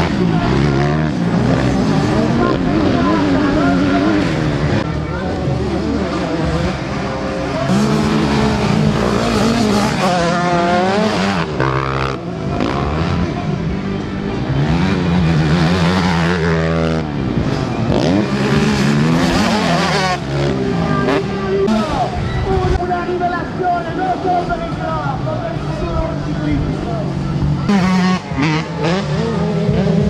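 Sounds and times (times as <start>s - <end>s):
motocross bikes revving: 0.0s - 30.0s.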